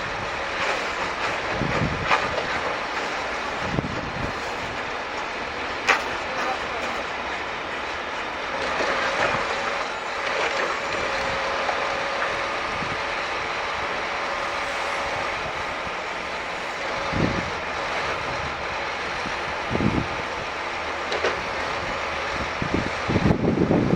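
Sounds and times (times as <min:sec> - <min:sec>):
hydraulic whine: 0:00.0 - 0:23.9
truck engine running: 0:00.0 - 0:23.9.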